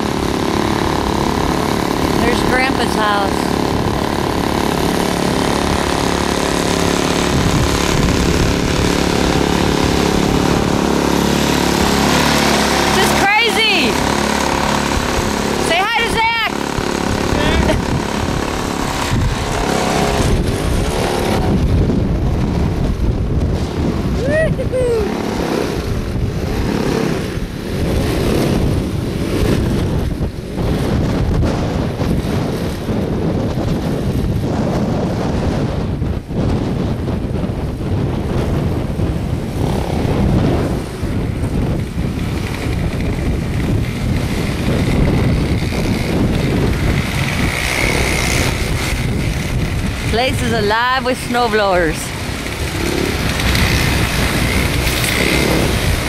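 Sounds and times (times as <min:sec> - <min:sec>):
snowblower engine running: 0:00.0 - 0:56.0
wind buffeting microphone: 0:00.0 - 0:56.0.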